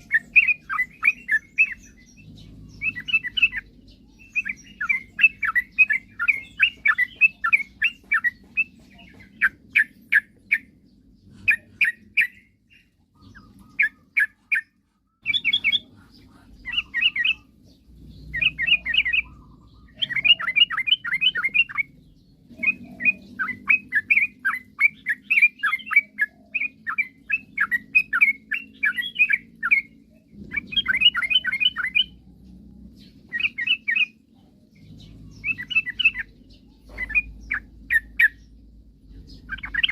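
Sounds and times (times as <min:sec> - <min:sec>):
bird singing bubbly chirps: 0:00.0 - 0:39.9.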